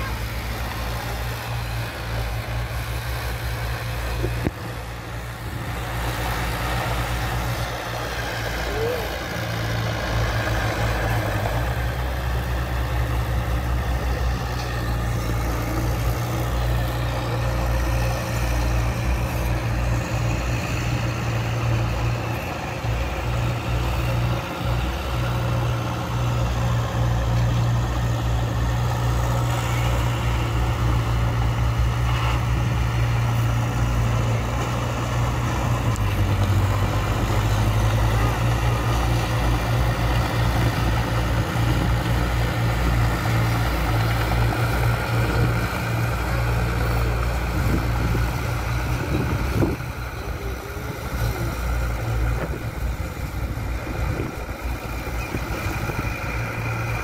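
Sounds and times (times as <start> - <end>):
bulldozer diesel engines droning: 0.0 - 57.0.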